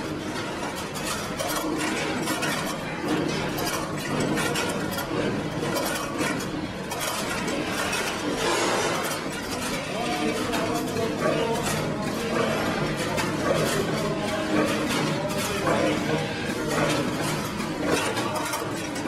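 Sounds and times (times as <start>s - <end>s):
machine rattling with metallic clicks: 0.0s - 19.0s.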